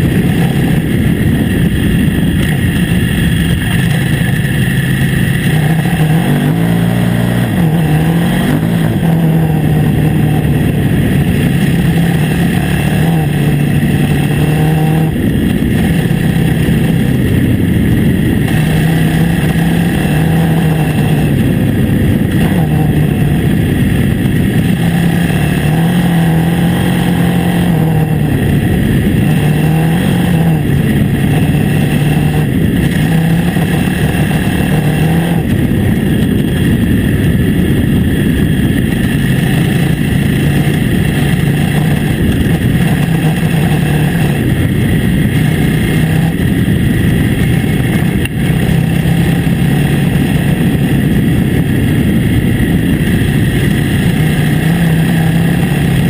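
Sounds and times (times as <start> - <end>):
motorcycle engine: 0.0 - 56.0
steady rush of noise: 0.0 - 56.0.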